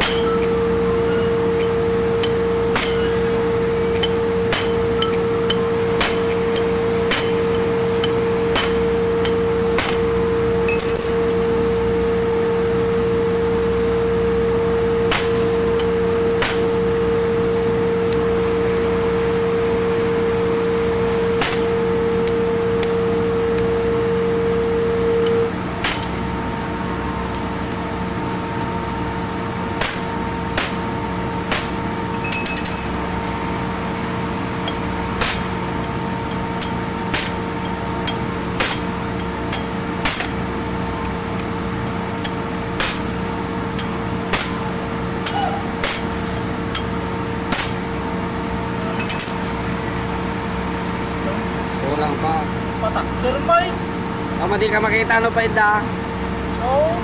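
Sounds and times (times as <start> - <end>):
machine humming with high whine: 0.0 - 57.0.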